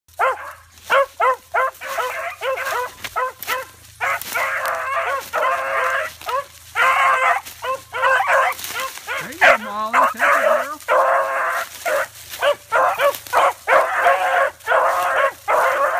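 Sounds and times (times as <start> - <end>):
puppies drawn-out cries: 0.1 - 15.9
puppies yipping: 0.1 - 15.9.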